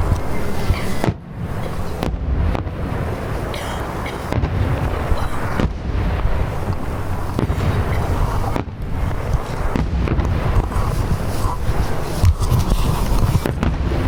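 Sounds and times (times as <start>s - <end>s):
fireworks booming rumble: 0.0s - 14.0s
sharp fireworks bangs: 0.0s - 14.0s.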